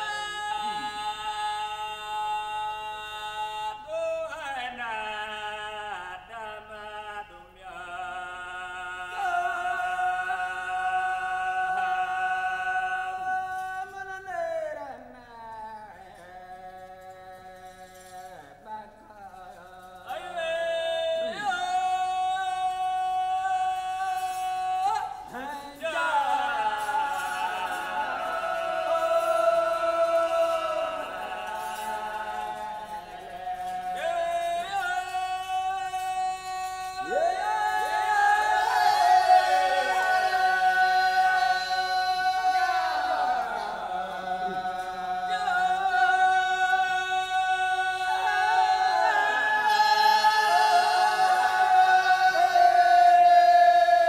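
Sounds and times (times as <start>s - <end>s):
men singing a cappella call and response: 0.0s - 54.0s.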